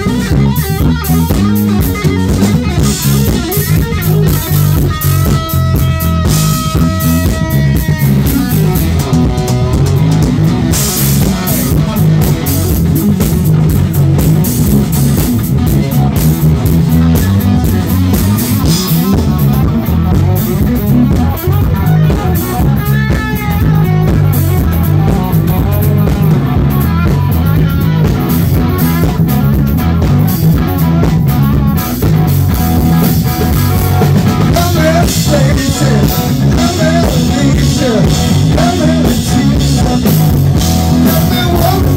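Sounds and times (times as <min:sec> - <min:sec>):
bass guitar: 0:00.0 - 0:41.9
drum kit: 0:00.0 - 0:41.9
electric guitar lead: 0:00.0 - 0:41.9.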